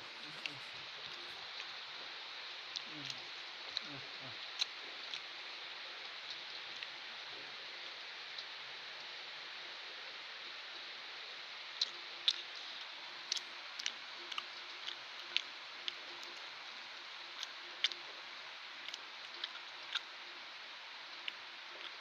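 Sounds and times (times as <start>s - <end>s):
kittens chewing: 0.0s - 7.7s, 11.8s - 22.0s
steady hiss: 0.0s - 22.0s.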